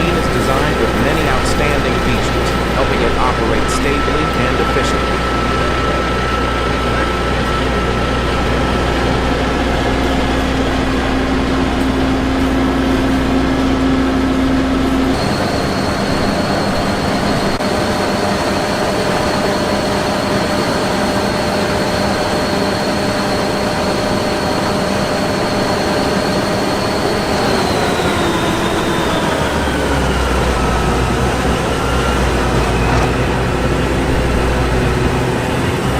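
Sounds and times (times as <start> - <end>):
combine harvester running: 0.0 - 35.9
high machine whine: 0.0 - 35.9.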